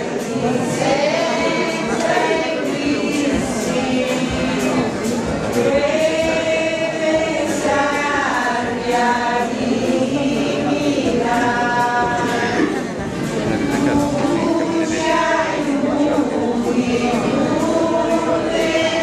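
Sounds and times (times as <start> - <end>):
congregation singing a hymn: 0.0 - 19.0.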